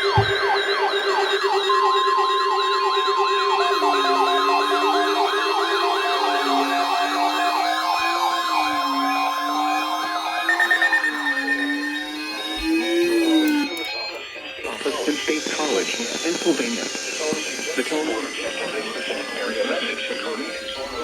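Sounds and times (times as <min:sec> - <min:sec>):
siren-like wail: 0:00.0 - 0:21.0
steady alarm tone: 0:00.0 - 0:21.0.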